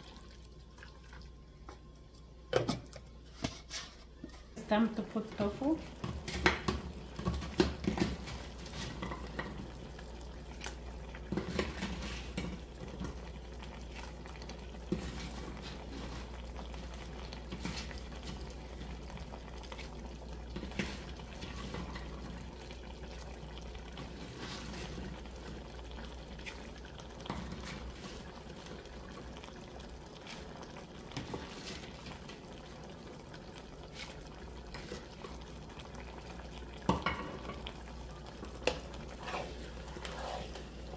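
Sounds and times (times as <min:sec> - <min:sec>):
pot of sauce simmering: 0:00.0 - 0:40.9.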